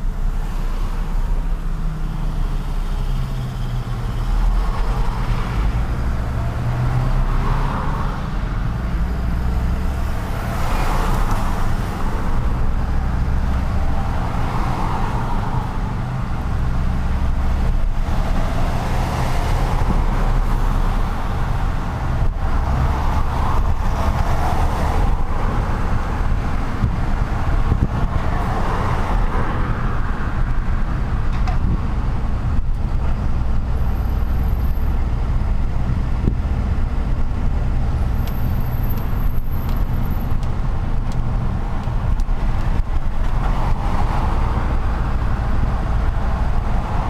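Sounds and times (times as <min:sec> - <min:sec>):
road and city traffic: 0:00.0 - 0:47.0.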